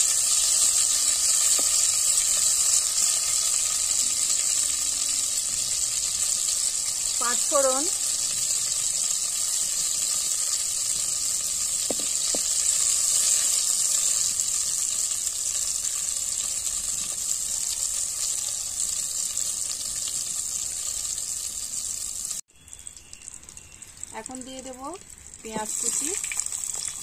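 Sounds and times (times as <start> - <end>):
oil sizzling in a pot: 0.0 - 27.0.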